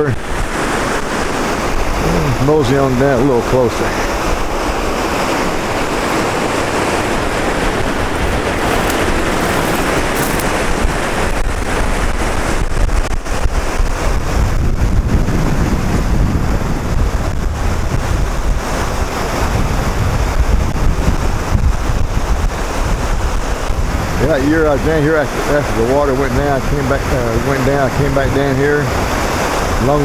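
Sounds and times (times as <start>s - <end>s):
river rushing over rocks: 0.0s - 14.5s, 17.0s - 30.0s
wind buffeting microphone: 0.0s - 30.0s.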